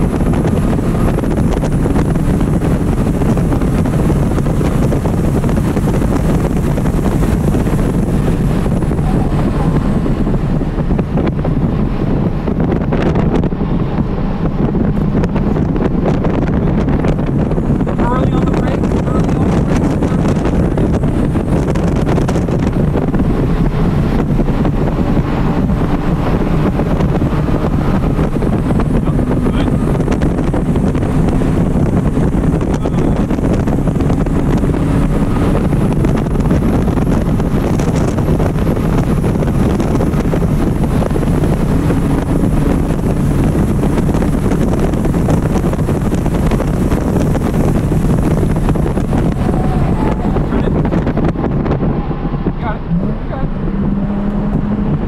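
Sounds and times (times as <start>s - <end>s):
car engine at high revs: 0.0s - 55.0s
wind and road noise: 0.0s - 55.0s.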